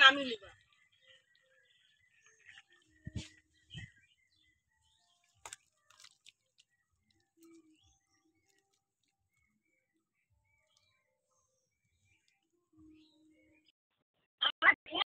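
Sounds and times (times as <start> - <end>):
faint birdsong chirps: 0.0 - 13.8.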